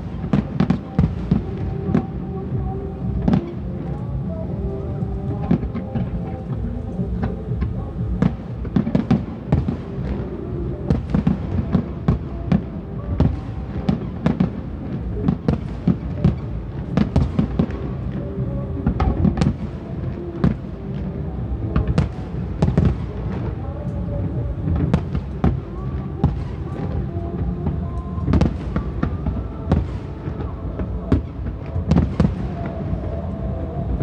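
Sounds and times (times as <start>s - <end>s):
fireworks bangs: 0.0s - 34.0s
music playing: 0.0s - 34.0s.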